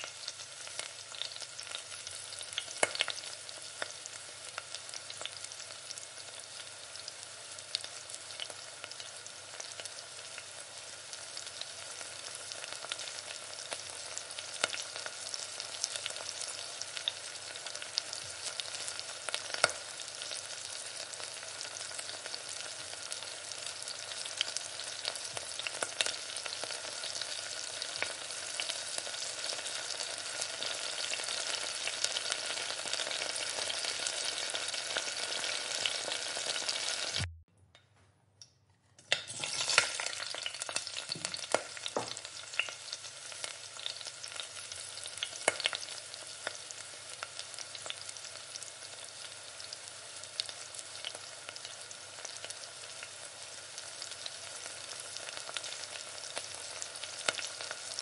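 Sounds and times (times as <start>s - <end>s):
chicken sizzling in frying pan: 0.0s - 37.3s, 39.1s - 58.0s.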